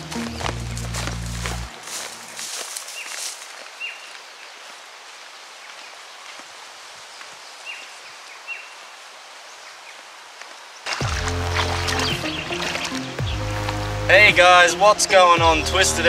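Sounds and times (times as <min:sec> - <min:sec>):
wind in leaves: 0:00.0 - 0:14.1.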